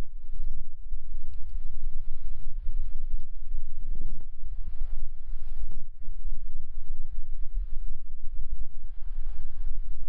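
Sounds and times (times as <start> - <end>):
low rumbling on phone microphone: 0.0 - 10.0.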